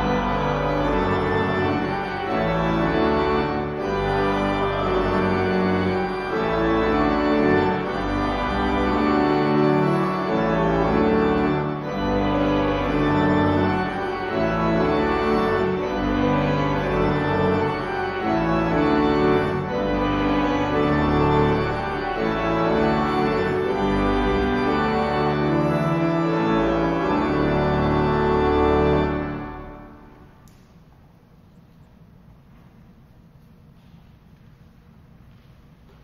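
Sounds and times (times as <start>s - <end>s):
organ playing sustained chords: 0.0s - 30.6s.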